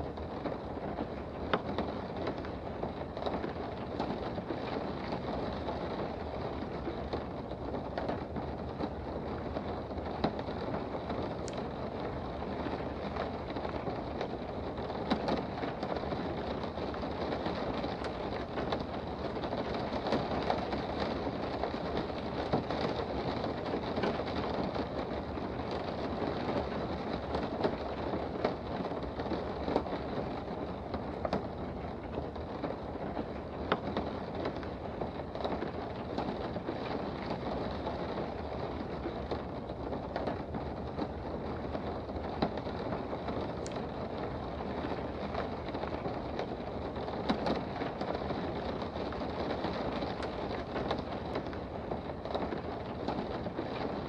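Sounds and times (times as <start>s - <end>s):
raindrops ticking: 0.0s - 54.0s.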